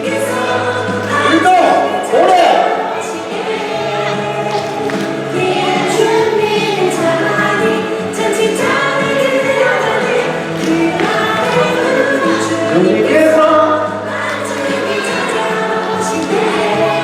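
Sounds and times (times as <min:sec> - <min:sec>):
backing music: 0:00.0 - 0:17.0
group of voices singing: 0:00.0 - 0:17.0.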